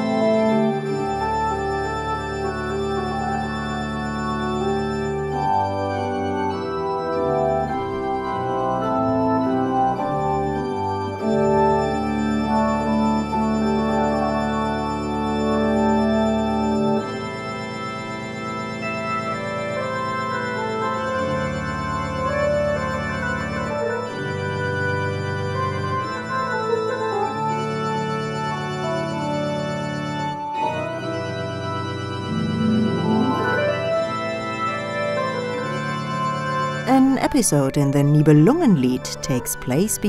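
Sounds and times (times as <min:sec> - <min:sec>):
organ bass notes: 0:00.0 - 0:40.0
organ chords: 0:00.0 - 0:40.0.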